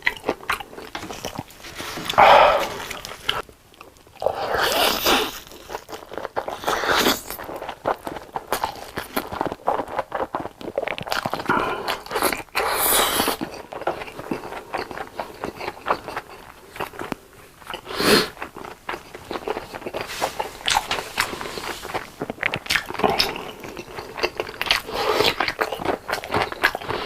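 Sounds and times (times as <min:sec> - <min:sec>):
crunching bites and chewing: 0:00.0 - 0:27.0.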